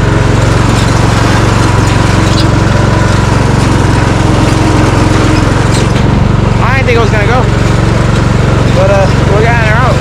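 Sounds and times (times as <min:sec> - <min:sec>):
riding lawnmower engine: 0:00.0 - 0:10.0.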